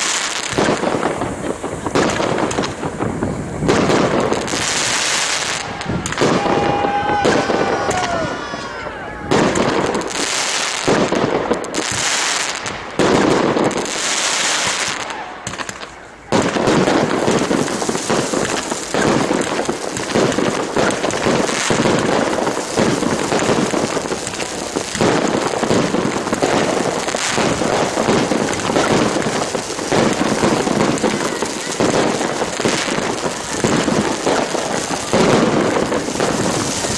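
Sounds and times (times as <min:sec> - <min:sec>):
fireworks crackling and bursting: 0:00.0 - 0:36.9.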